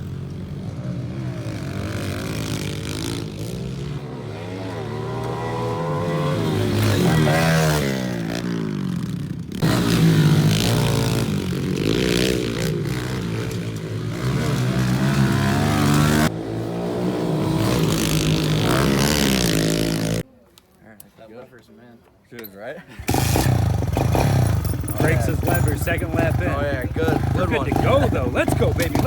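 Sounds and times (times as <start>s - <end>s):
pit bike engines revving: 0.0s - 20.2s, 22.8s - 29.0s.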